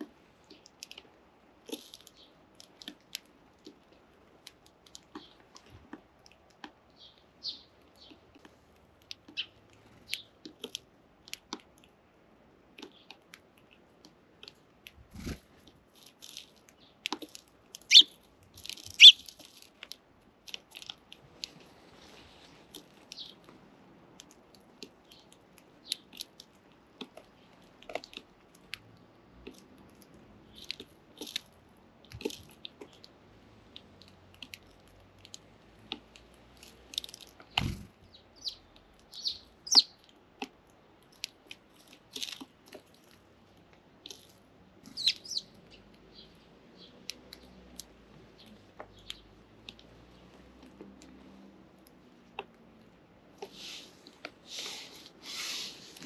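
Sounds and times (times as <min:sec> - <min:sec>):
sparrows pecking and cracking seed: 0:00.0 - 0:56.0.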